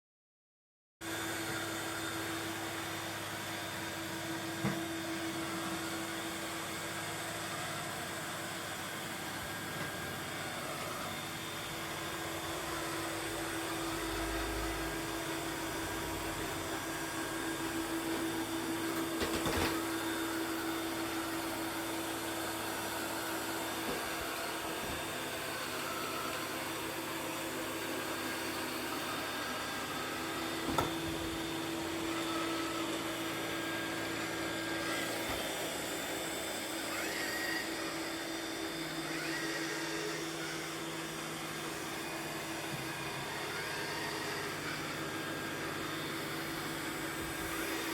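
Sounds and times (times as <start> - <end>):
robot vacuum whirring: 1.1 - 47.9.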